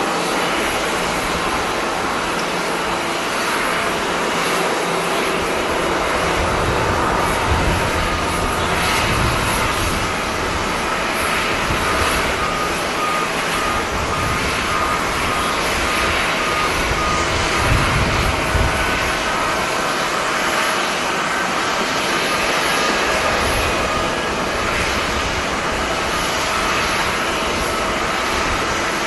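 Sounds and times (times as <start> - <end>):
jet engines rumbling: 0.0 - 29.0
wind noise: 0.0 - 29.0.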